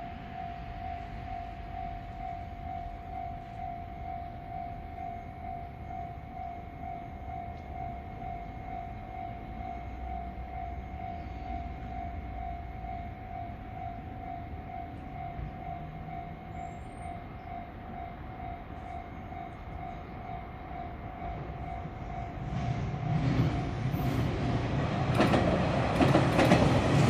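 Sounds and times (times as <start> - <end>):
level crossing warning bell: 0.0 - 24.5.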